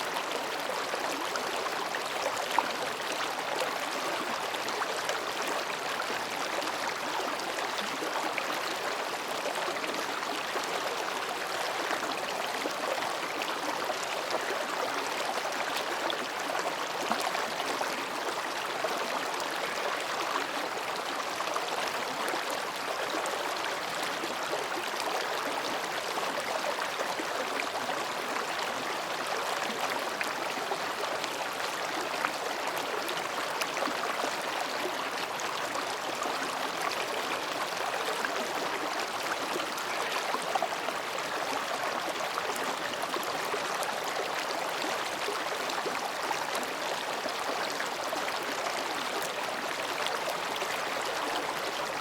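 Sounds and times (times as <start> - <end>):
stream babbling over rocks: 0.0 - 52.0.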